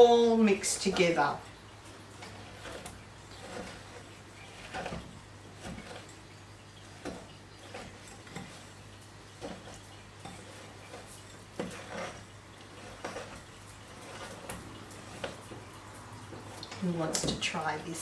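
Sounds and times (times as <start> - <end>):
utensil clinking and scraping bowl: 0.0 - 18.0.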